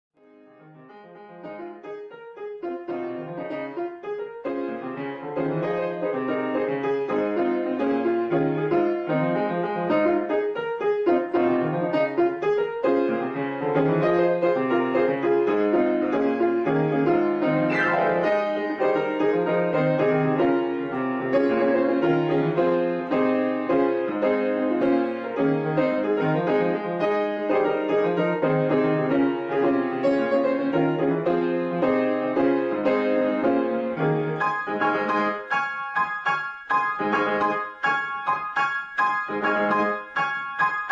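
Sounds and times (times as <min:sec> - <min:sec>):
lively piano music: 0:00.2 - 0:40.9.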